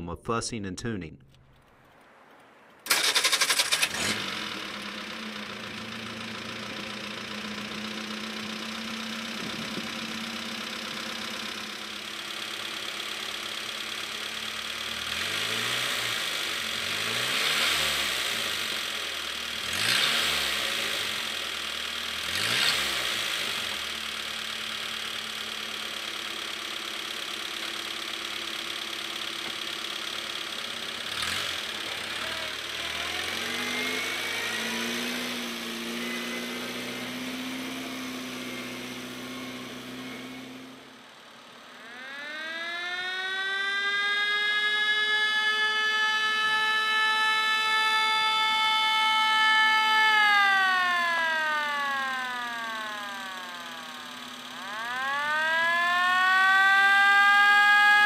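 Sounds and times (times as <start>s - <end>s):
truck engine idling and revving: 1.3s - 58.0s.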